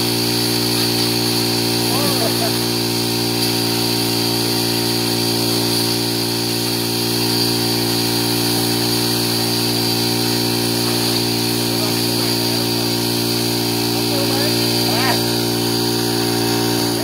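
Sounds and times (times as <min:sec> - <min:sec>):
hose jet spraying water: 0:00.0 - 0:17.0
water pump humming: 0:00.0 - 0:17.0.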